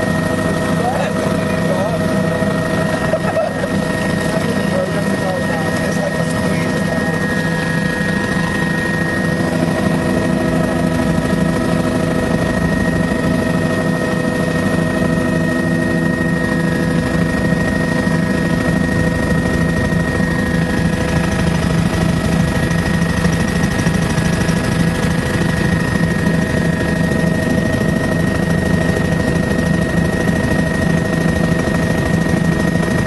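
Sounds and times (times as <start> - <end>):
helicopter rotor drone: 0.0 - 33.0
turbine engine high whine: 0.0 - 33.0.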